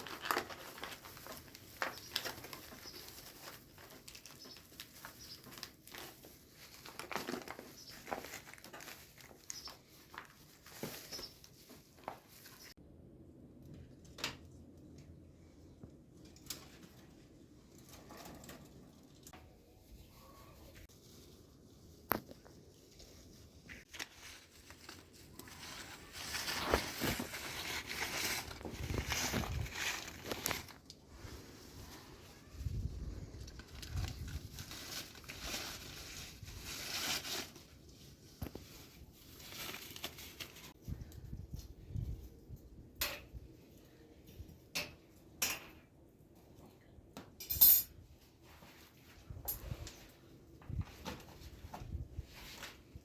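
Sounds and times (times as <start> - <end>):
crinkling and rustling handling noise: 0.0 - 12.8, 13.6 - 42.6, 48.0 - 53.0.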